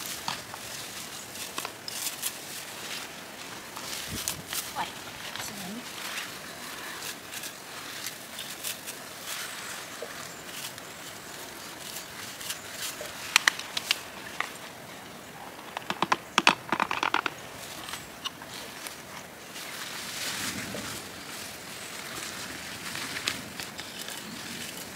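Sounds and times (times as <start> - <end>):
leaves rustling: 0.0 - 24.9.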